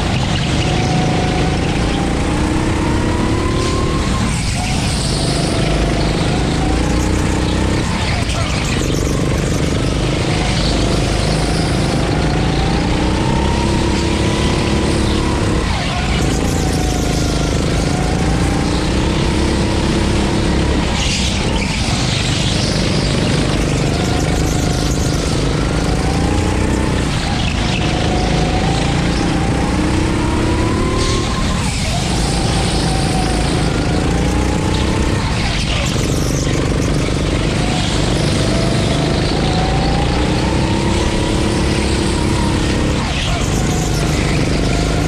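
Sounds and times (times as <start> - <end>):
constant rushing noise: 0.0 - 45.0
go-kart engine revving: 0.0 - 45.0.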